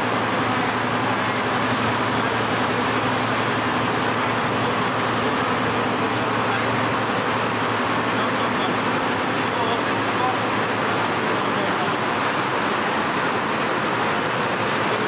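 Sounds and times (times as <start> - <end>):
factory machinery whirring: 0.0 - 15.0.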